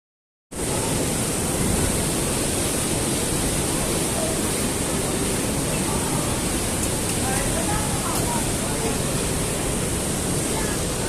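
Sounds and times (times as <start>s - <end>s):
mountain stream rushing: 0.6s - 11.0s.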